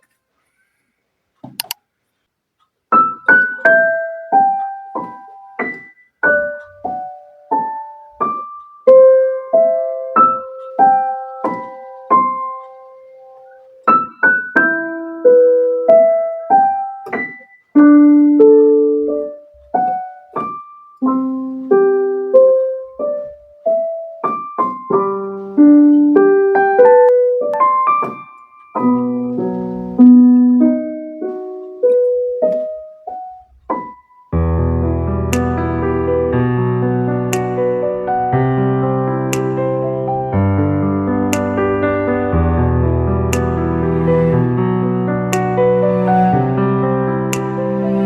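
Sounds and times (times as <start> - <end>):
electronic keyboard melody: 2.9 - 48.0.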